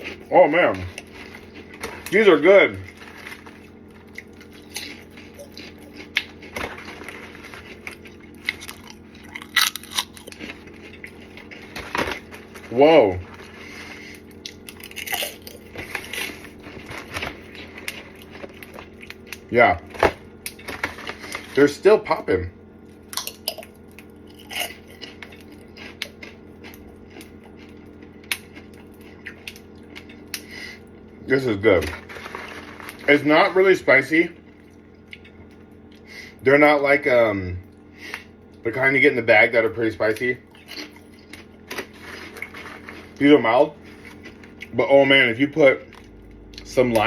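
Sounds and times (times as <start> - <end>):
person chewing crunchy pork rinds: 0.0 - 36.4, 37.6 - 47.0
faint steady hum: 0.0 - 47.0.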